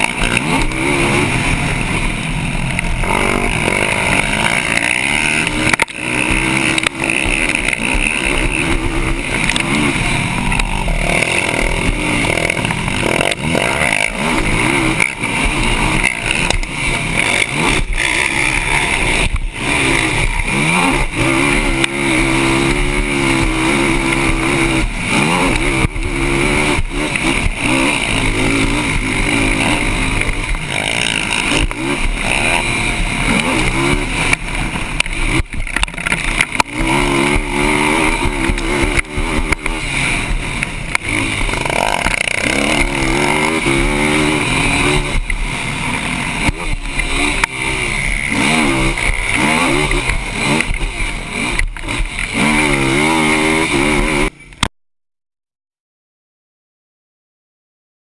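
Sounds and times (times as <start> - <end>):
quad engine revving: 0.0 - 54.7.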